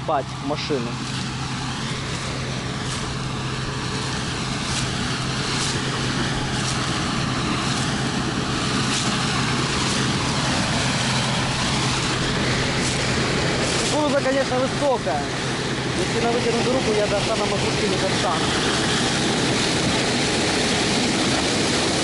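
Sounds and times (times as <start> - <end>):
combine engine drone: 0.0 - 22.0
threshing and cutting noise: 0.0 - 22.0.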